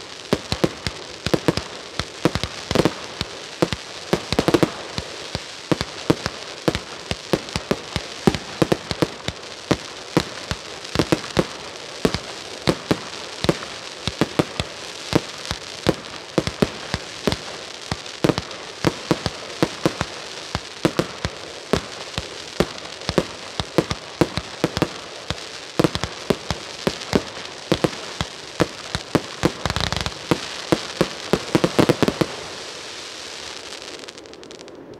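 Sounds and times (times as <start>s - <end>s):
fireworks shots and bursts: 0.0s - 34.9s.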